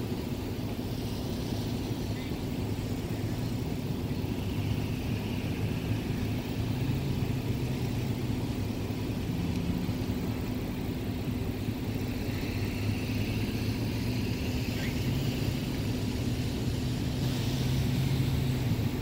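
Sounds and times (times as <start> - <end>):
low engine hum: 0.0 - 19.0
road traffic: 0.0 - 19.0.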